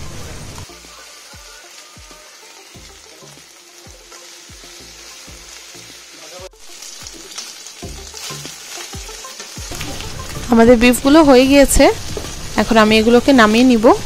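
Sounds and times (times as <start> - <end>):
background music with steady beat: 0.0 - 11.6
meat sizzling in hot oil: 0.0 - 14.0.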